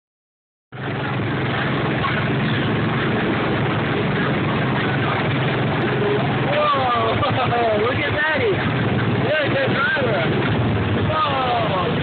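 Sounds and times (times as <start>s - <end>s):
rushing noise: 0.7s - 12.0s.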